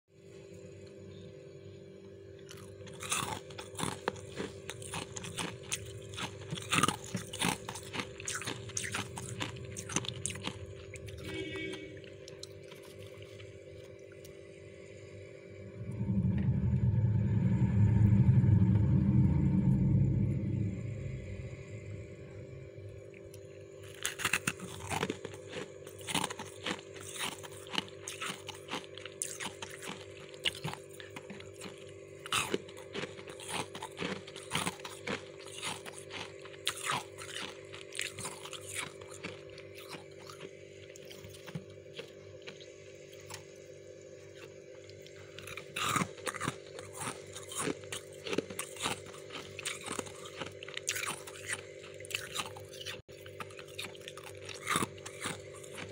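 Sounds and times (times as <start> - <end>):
steady hum: 0.1 - 55.9
chewing crunchy frost: 2.3 - 15.0, 20.2 - 55.9.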